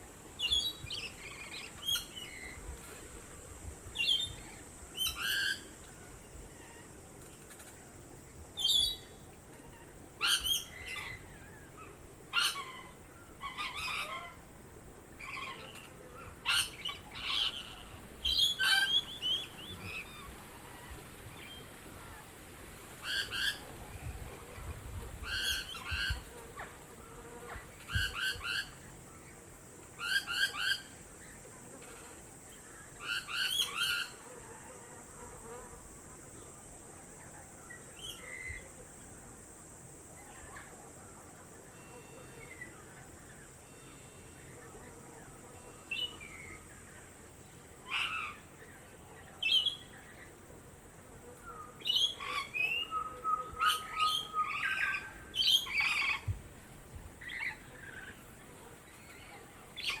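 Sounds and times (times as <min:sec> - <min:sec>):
steady high hiss: 0:00.0 - 1:00.0.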